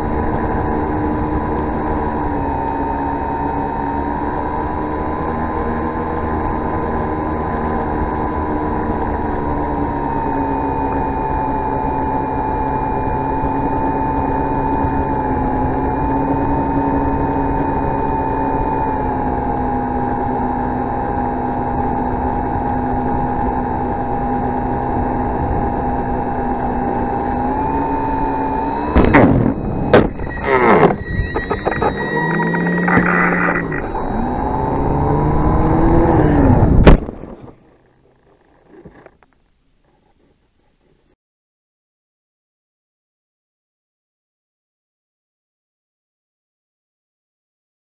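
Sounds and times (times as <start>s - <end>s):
electric motor and propeller: 0.0s - 39.4s.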